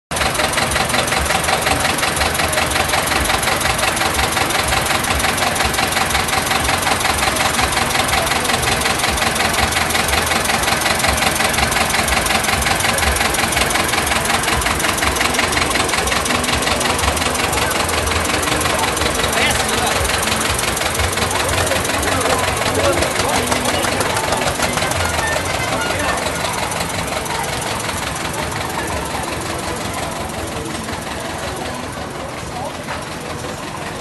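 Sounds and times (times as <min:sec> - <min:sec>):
tractor engine chugging: 0:00.1 - 0:34.0.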